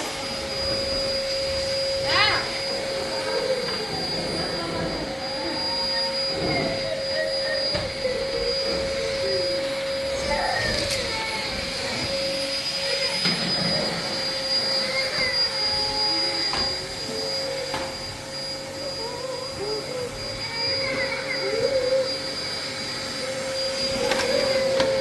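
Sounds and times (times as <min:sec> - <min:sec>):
machine whine: 0:00.0 - 0:25.0.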